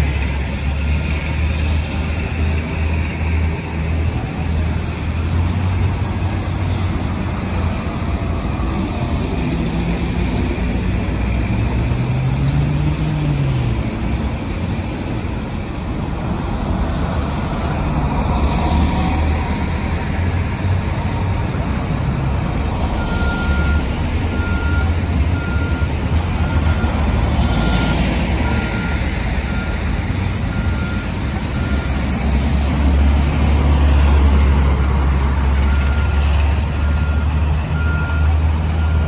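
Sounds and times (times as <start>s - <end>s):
bus diesel engines passing: 0.0s - 39.0s.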